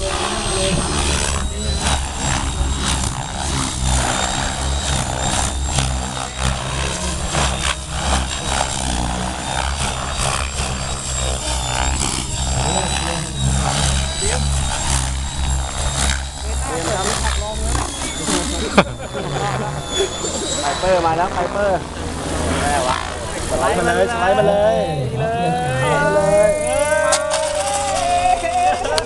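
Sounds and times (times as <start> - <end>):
helicopter rotor blade chop: 0.0 - 29.0
high motor whine: 0.0 - 29.0.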